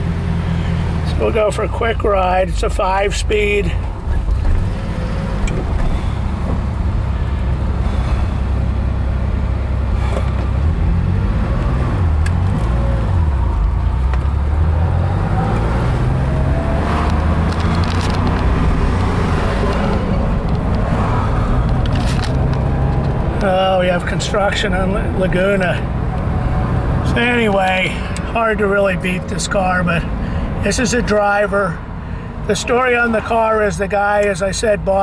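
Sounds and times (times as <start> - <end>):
car engine from inside cabin: 0.0 - 35.0.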